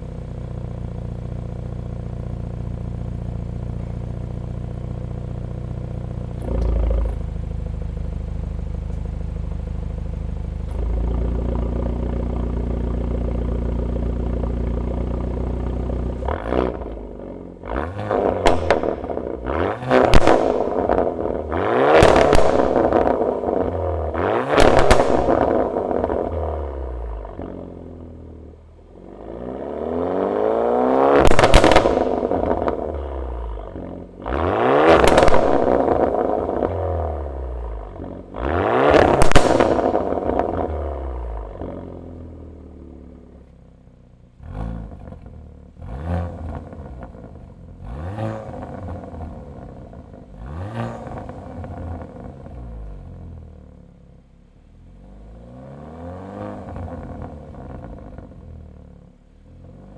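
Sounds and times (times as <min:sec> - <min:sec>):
exhaust cracks: 0:00.0 - 0:53.6, 0:56.4 - 0:59.9
car engine revving: 0:01.0 - 0:59.9.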